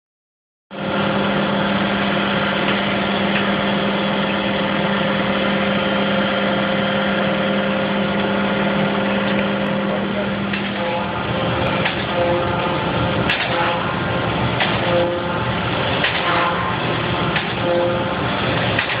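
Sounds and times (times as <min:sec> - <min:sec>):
surface grinder humming: 0:00.8 - 0:19.0.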